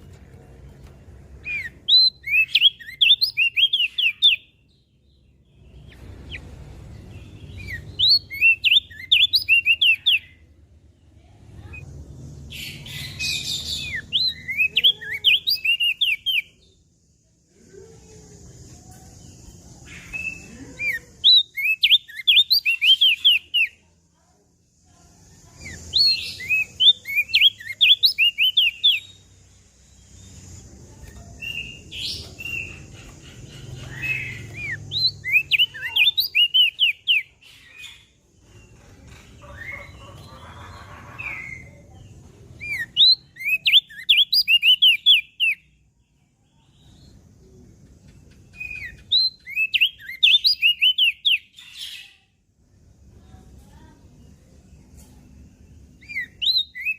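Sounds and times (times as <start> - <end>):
bird high rapid chirping: 1.3 - 10.6, 11.2 - 16.8, 19.1 - 23.9, 25.4 - 45.8, 48.0 - 52.4, 55.8 - 56.9.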